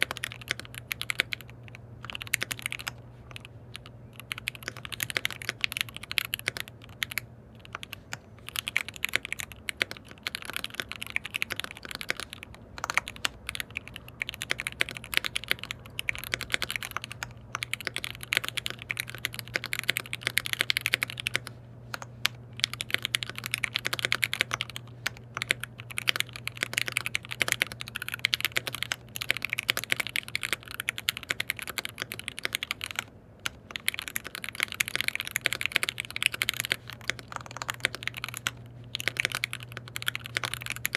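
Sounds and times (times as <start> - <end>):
mechanical keyboard typing: 0.0 - 40.9
steady low hum: 0.0 - 40.9.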